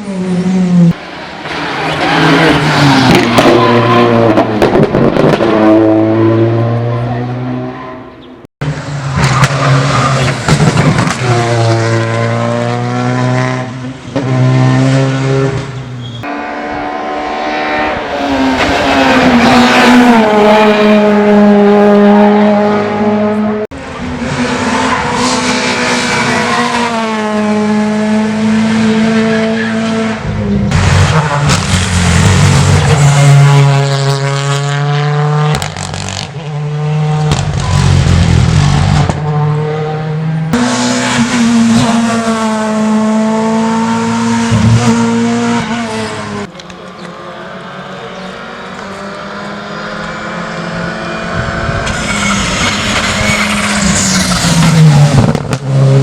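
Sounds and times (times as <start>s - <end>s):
rally cars passing at high revs: 0.0s - 56.0s.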